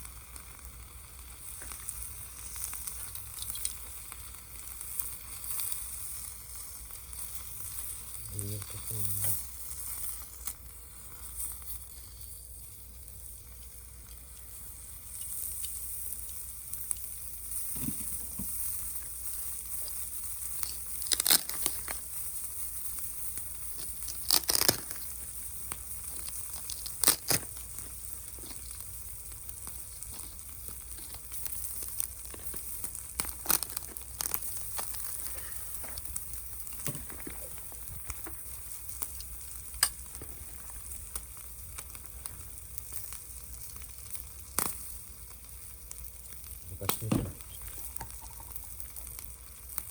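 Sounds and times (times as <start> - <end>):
food sizzling in a frying pan: 0.0 - 49.9.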